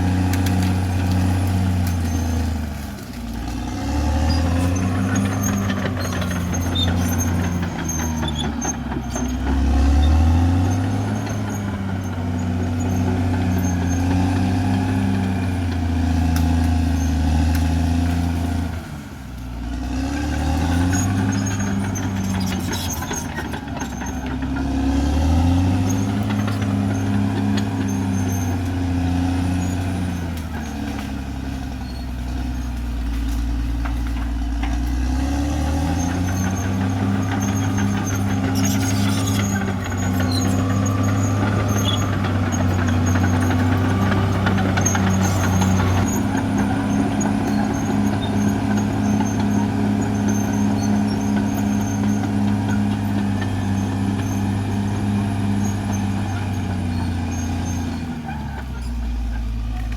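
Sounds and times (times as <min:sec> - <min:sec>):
machine squeaks and clanks: 0:00.0 - 0:18.8, 0:19.7 - 0:59.9
bulldozer diesel engine under load: 0:00.0 - 0:59.9.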